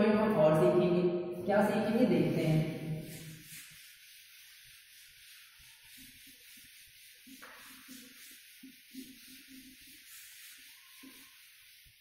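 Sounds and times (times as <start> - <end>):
duster rubbing chalkboard: 1.5 - 12.0.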